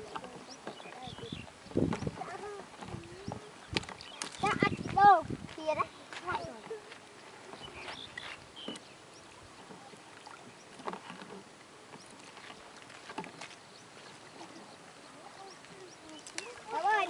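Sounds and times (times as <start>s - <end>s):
river water splashing and lapping: 0.0s - 17.0s.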